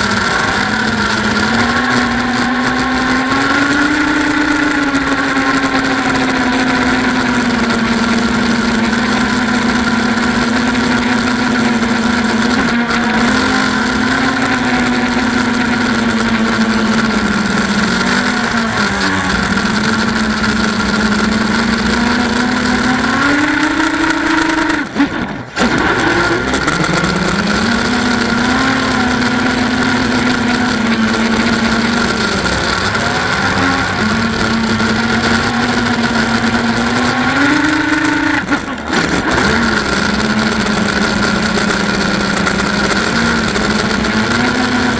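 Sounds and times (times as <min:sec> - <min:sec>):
quadcopter motors buzzing: 0:00.0 - 0:44.9.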